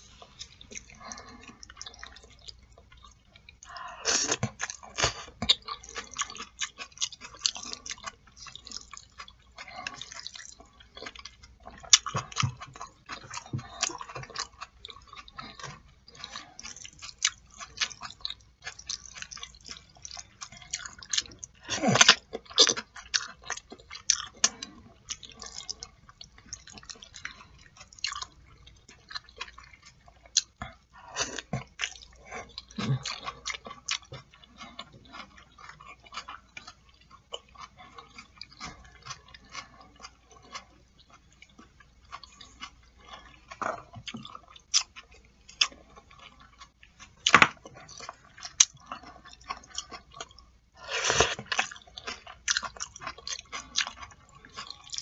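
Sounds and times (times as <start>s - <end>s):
wet chewing and lip smacking: 0.0s - 55.0s.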